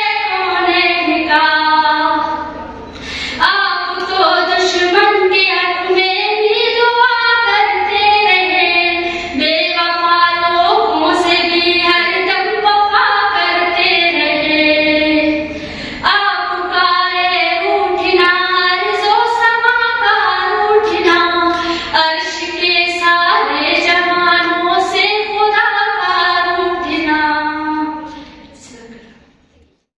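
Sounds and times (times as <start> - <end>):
woman singing unaccompanied: 0.0 - 2.4, 3.4 - 29.1.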